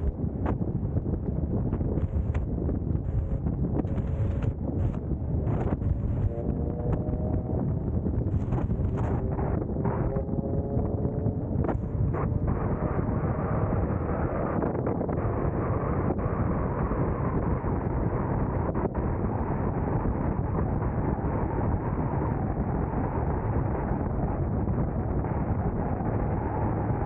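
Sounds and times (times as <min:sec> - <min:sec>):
car road and tyre noise: 0:00.0 - 0:27.0
wind noise on microphone: 0:00.0 - 0:27.0.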